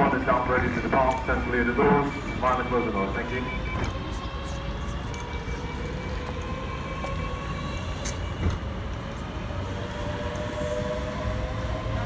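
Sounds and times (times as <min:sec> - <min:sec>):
train traction motor whine: 0:00.0 - 0:12.0
wheels rumbling on rails: 0:00.0 - 0:12.0.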